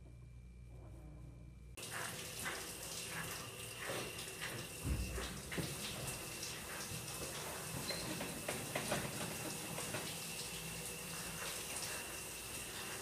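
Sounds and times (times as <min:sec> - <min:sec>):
tap water running into sink: 0:01.8 - 0:13.0.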